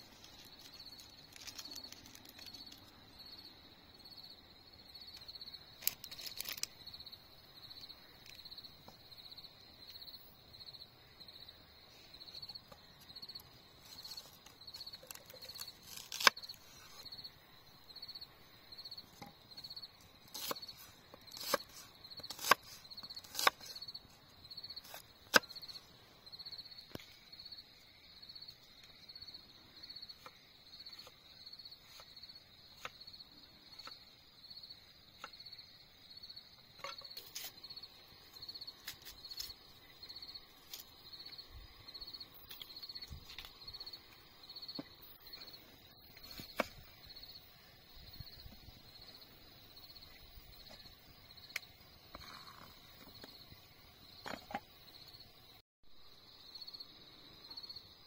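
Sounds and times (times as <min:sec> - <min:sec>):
insect chirping: 0:00.0 - 0:58.0.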